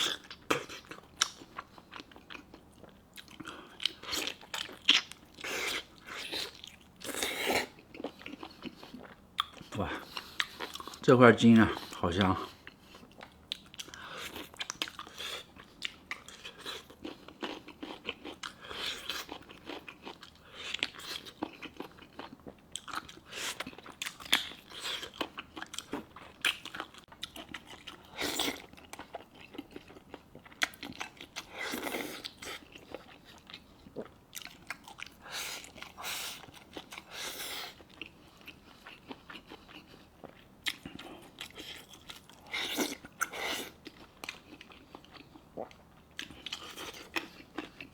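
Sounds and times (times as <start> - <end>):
person chewing meat: 0.0 - 47.9.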